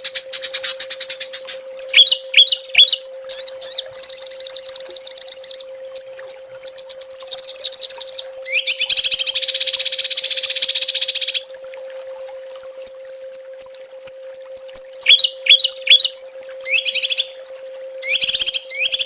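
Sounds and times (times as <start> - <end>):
songbird calling in rapid bursts: 0.0 - 11.4, 12.9 - 17.4, 18.0 - 19.0
faint steady hum: 0.0 - 19.0.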